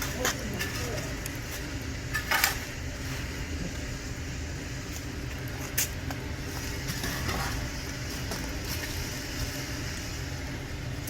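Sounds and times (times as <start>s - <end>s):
campfire burning: 0.0s - 11.0s
firewood crackling: 0.0s - 11.0s.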